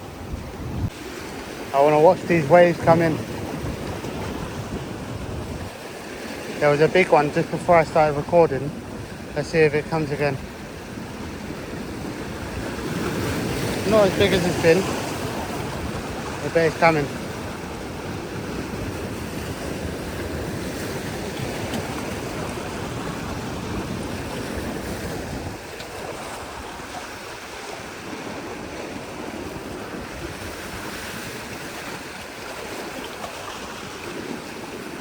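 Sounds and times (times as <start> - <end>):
sea surf rushing against rocks: 0.0 - 35.0
wind on microphone: 0.0 - 35.0.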